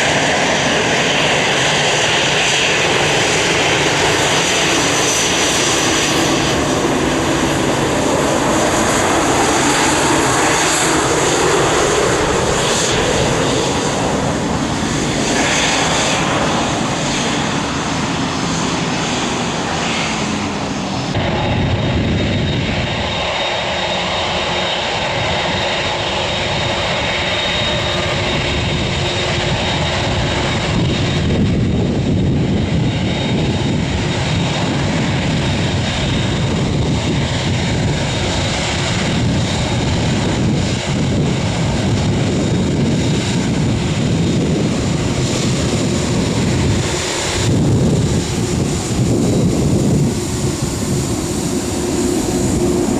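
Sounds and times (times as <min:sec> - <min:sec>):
aircraft engine noise: 0:00.0 - 0:52.9
airliner engines running: 0:00.0 - 0:52.9.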